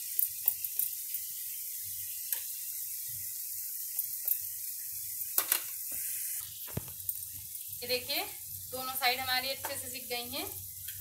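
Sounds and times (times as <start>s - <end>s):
oil crackling and popping: 0.0s - 8.8s, 9.5s - 11.0s
chicken sizzling in oil: 0.0s - 11.0s.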